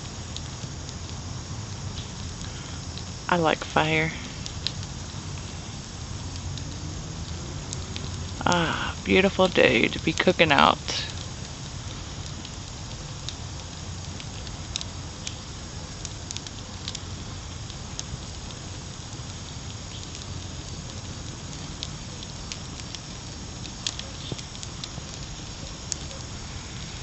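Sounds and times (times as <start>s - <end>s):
charcoal fire crackling: 0.0s - 27.0s
fire hiss: 0.0s - 27.0s
fire pops: 0.0s - 27.0s.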